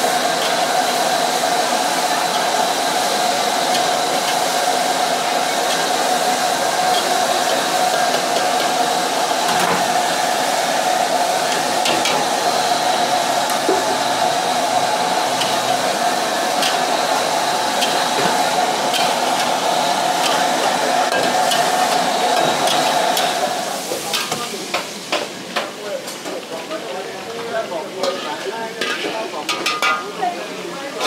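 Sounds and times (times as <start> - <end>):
food sizzling in a wok: 0.0 - 31.0
gas burner roaring: 0.0 - 31.0.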